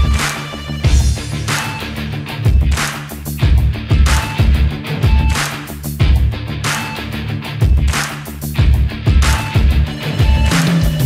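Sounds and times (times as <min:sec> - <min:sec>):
music with heavy bass beat: 0:00.0 - 0:11.0.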